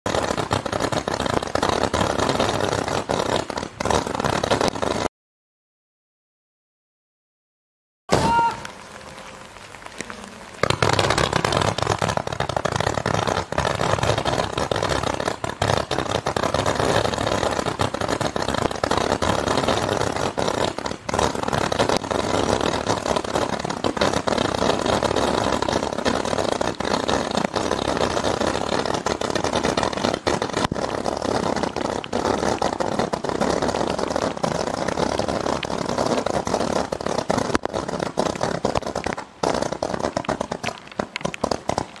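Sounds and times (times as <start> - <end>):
roman candles firing rattle: 8.1 - 42.0.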